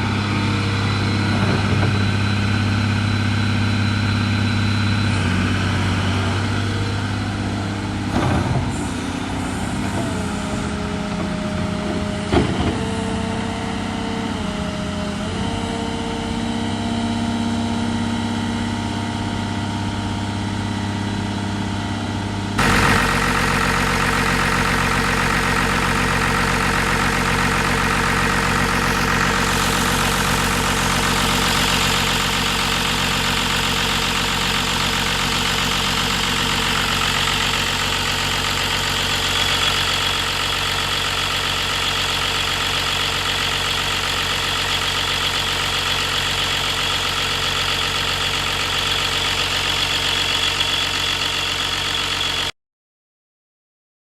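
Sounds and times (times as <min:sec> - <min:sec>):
excavator diesel engine running: 0:00.0 - 0:52.5.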